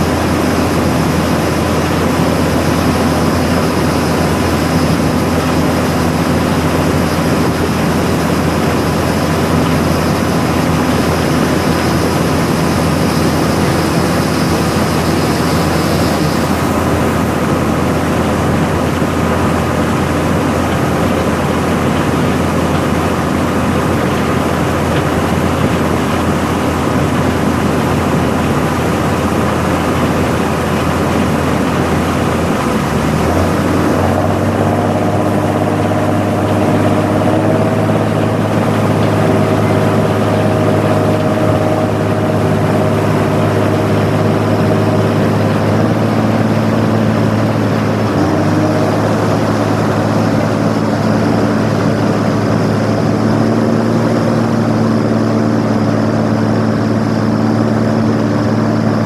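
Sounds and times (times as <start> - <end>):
heavy vehicle engine droning: 0.0 - 59.0.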